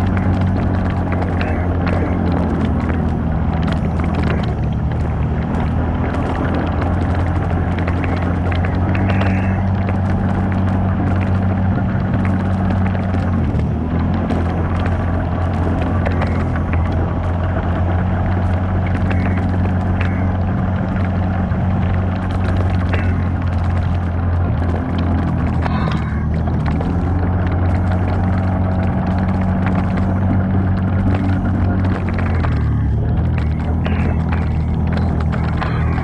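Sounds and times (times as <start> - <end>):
off-road vehicle engine running: 0.0 - 36.0
vehicle clicks and knocks: 0.0 - 36.0.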